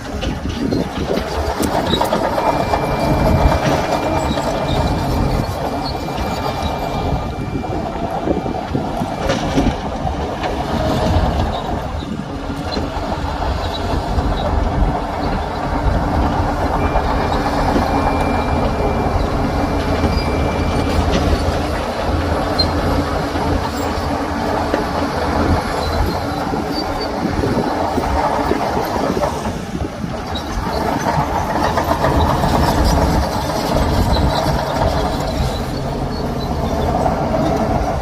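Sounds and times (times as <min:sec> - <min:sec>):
bulldozer diesel engine rumbling: 0:00.0 - 0:38.0
steel tracks rattling and clanking: 0:00.0 - 0:38.0.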